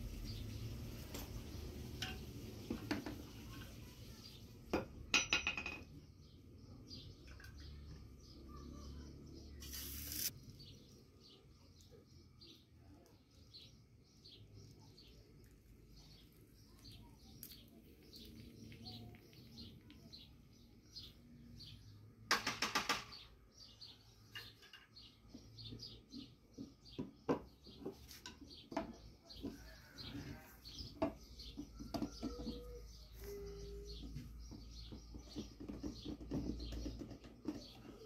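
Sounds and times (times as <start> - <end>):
small birds chirping: 5.9 - 22.3, 23.0 - 38.0.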